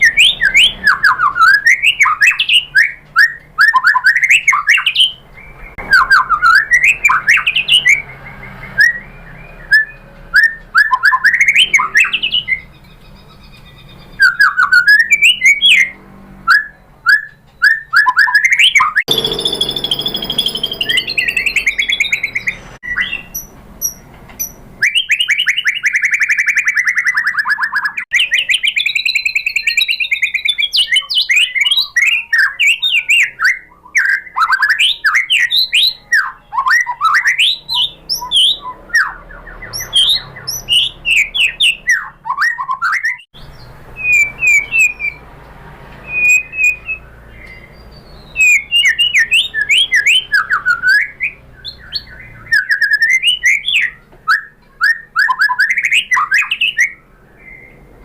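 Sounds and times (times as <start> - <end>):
bird singing whistled phrases: 0.0 - 45.2, 46.0 - 57.8.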